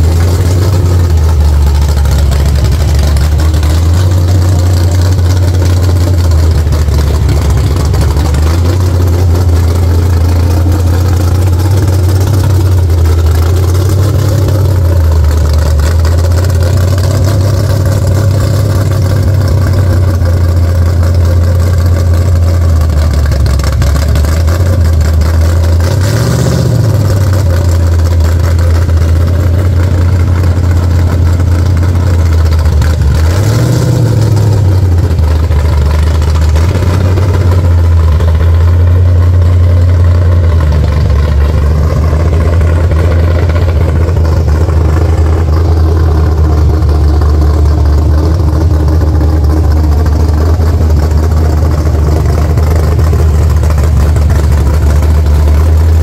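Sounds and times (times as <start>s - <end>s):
car engine loud idle: 0.0s - 56.0s
engine throttle blips: 0.0s - 56.0s.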